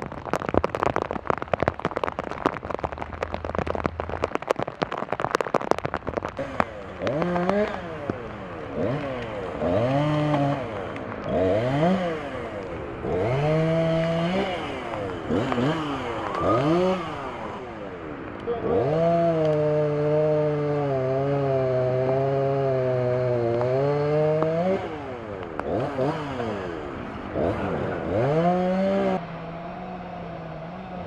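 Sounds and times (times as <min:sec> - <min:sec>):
chainsaw cutting through tree: 0:00.1 - 0:31.0.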